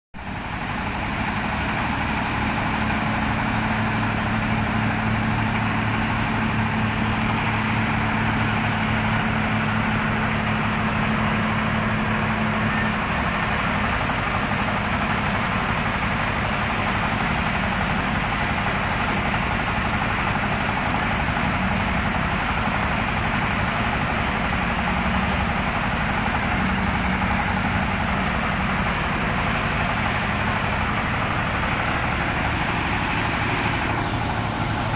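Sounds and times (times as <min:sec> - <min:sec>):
rice thresher running: 0:00.2 - 0:34.9.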